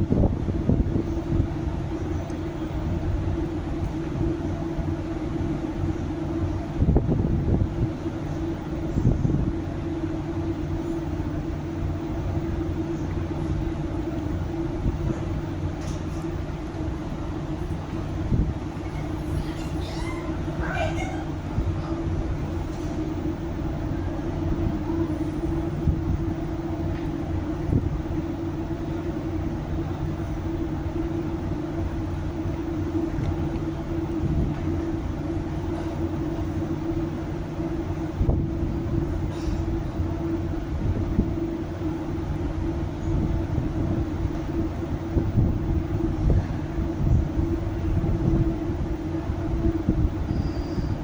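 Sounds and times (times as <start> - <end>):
mechanical rumble with droning hum: 0.0 - 51.0.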